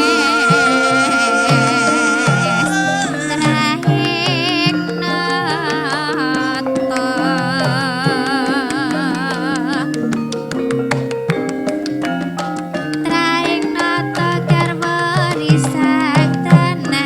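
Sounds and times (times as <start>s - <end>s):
struck metallophone notes: 0.0s - 17.0s
wavering held melody line: 0.0s - 17.0s.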